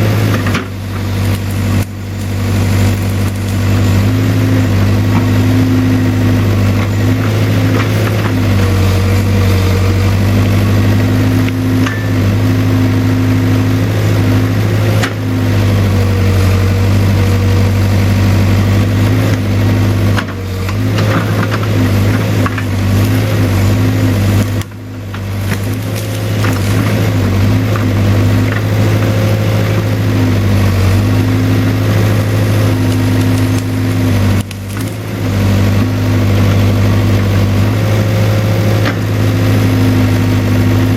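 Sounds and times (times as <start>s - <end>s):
backhoe diesel engine running: 0.0s - 40.9s.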